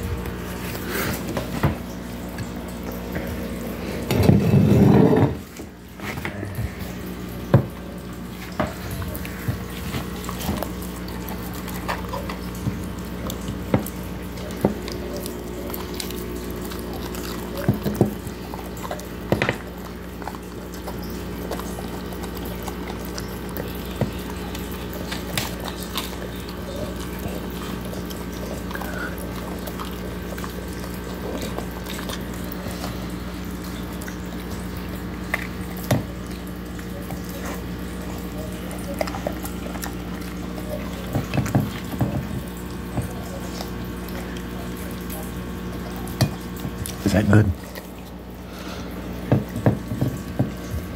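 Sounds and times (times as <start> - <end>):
dog chewing and licking: 0.0 - 50.9.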